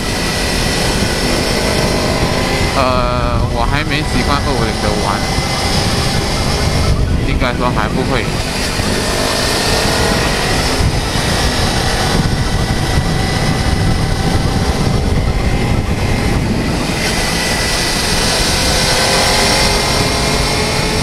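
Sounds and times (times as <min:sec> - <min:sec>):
heavy wind rush: 0:00.0 - 0:21.0
motorcycle engine drone: 0:00.0 - 0:21.0.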